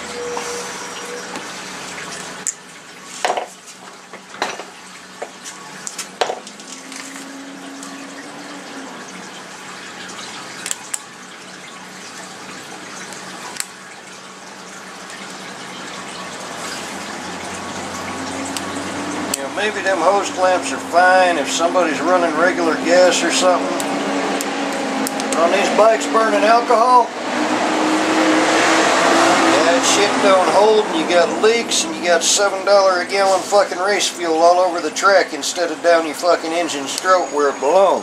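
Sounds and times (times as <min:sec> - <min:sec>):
rushing water-like noise: 0:00.0 - 0:38.0.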